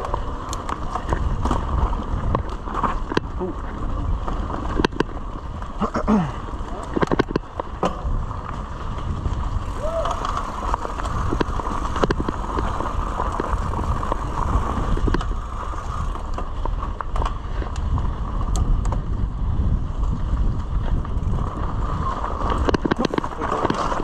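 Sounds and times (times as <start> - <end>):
bike clicks and rattles: 0.0 - 24.0
tyre and wind rumble: 0.0 - 24.0.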